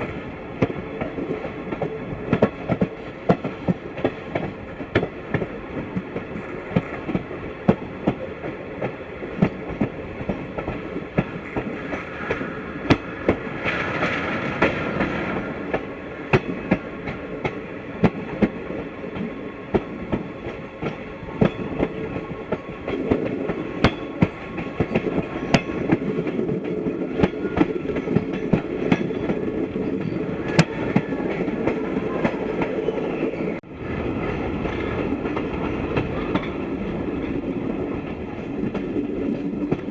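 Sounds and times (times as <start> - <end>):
train rumble: 0.0 - 39.9
train wheels clicking over rail joints: 0.0 - 39.9.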